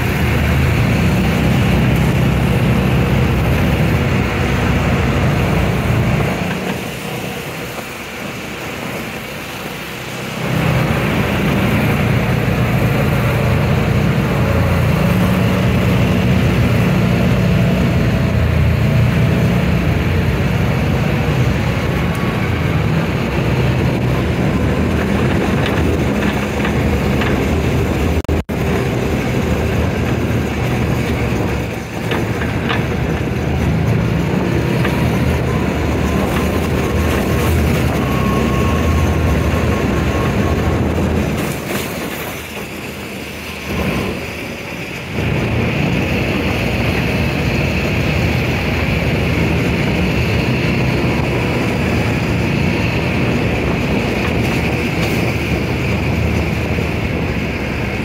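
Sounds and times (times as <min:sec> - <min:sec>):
off-road vehicle engine droning: 0:00.0 - 0:58.0
road and wind noise: 0:00.0 - 0:58.0.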